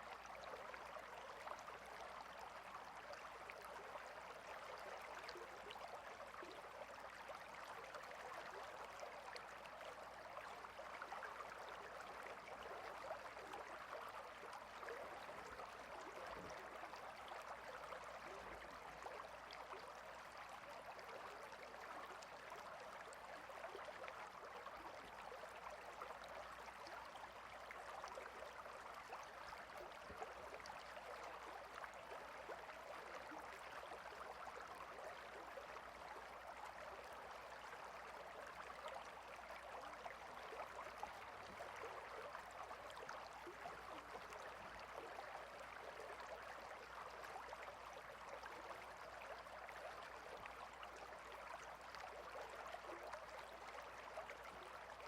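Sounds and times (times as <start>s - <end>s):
small stream babbling: 0.0s - 55.0s.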